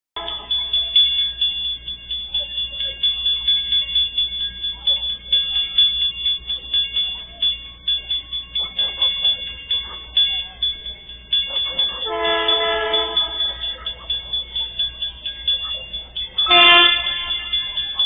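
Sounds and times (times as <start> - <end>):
level-crossing warning bell ringing: 0.2 - 18.0.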